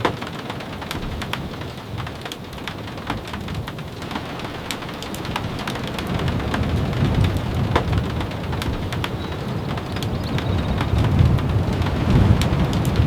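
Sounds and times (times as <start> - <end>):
raindrops tapping: 0.0 - 13.0
steady rain: 0.0 - 13.0.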